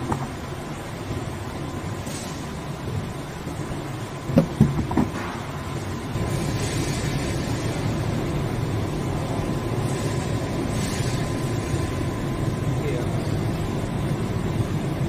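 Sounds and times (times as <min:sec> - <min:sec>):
constant hum: 0:00.0 - 0:15.0.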